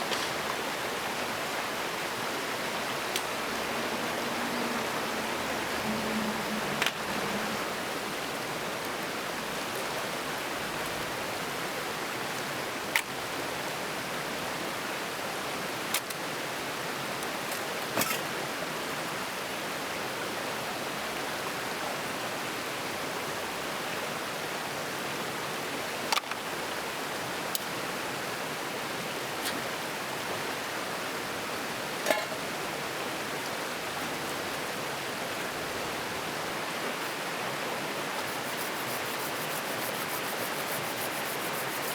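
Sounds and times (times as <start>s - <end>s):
steady hissing noise: 0.0s - 41.9s.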